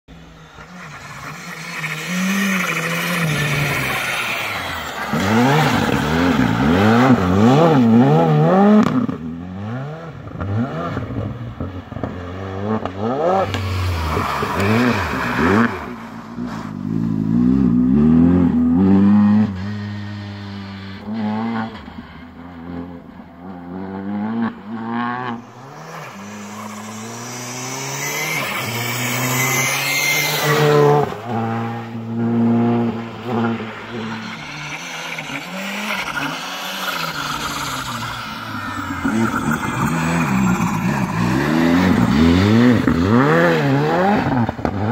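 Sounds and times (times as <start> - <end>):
rally car engine revving hard: 0.6 - 44.9.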